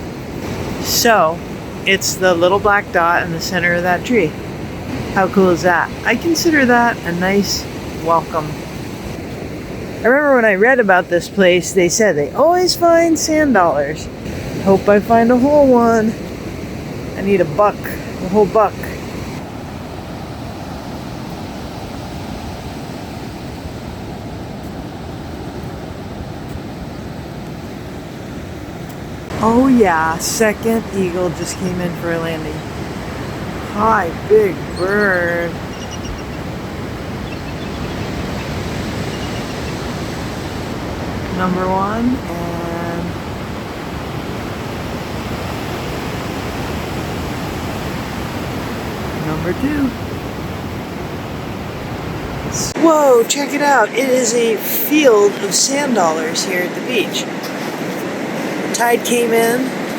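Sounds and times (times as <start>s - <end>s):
ocean surf on beach: 0.0s - 59.9s.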